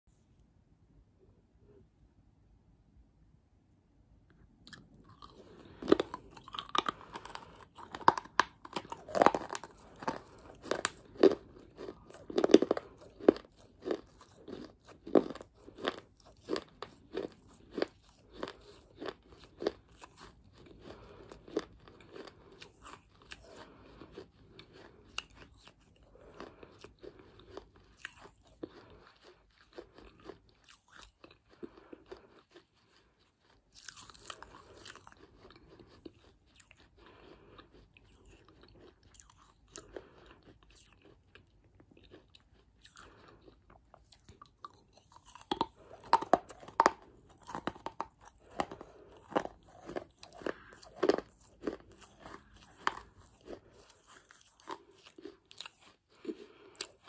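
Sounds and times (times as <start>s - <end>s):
crunching chewing: 4.6s - 57.0s.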